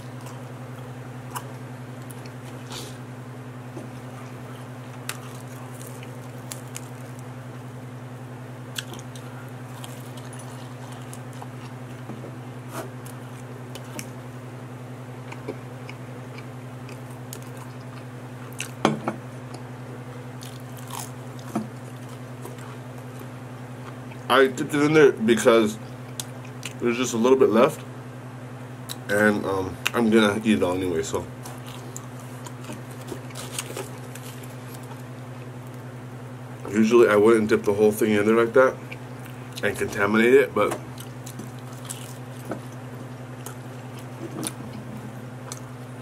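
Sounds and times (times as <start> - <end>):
crunchy chewing of pizza crust: 0.0 - 24.4, 25.8 - 26.9, 28.8 - 36.6, 38.5 - 46.0.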